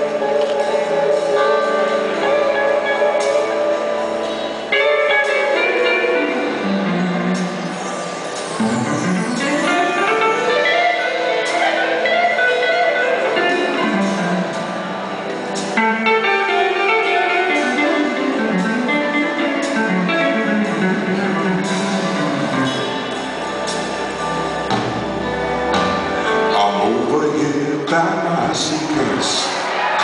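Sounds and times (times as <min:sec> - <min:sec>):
electric guitar jazz melody: 0:00.0 - 0:28.8
live band backing: 0:00.0 - 0:30.0.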